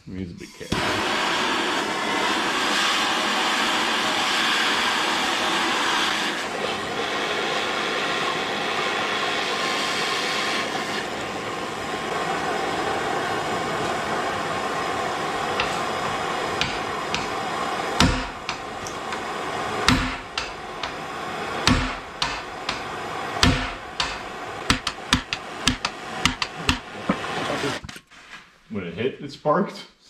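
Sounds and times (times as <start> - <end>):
heat gun blowing: 0.7 - 27.8.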